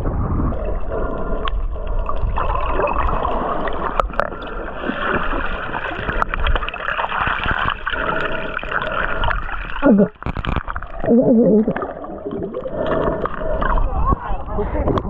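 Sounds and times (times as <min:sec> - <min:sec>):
muffled water sloshing: 0:00.0 - 0:15.0.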